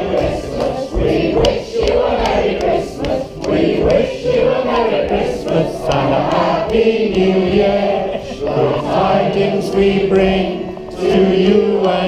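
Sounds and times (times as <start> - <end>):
choir singing long notes: 0.0 - 12.0.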